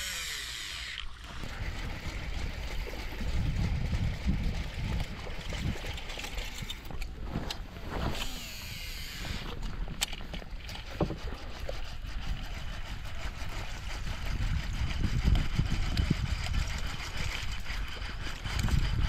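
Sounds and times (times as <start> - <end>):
water lapping against boat: 0.3 - 19.0
wind on microphone: 1.3 - 19.0.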